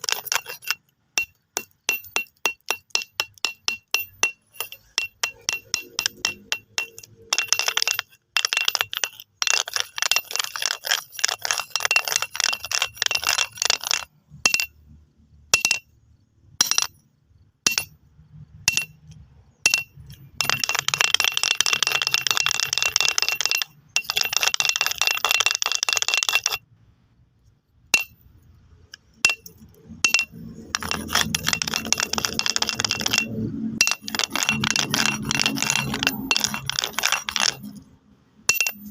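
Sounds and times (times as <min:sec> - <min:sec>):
stones clicking and rattling: 0:00.0 - 0:14.9, 0:15.6 - 0:17.1, 0:17.7 - 0:26.7, 0:27.5 - 0:38.9.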